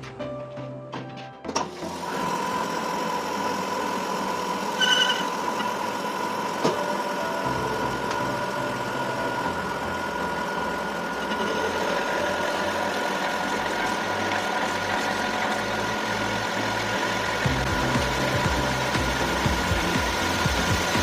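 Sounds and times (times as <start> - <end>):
lathe running: 1.6 - 21.0.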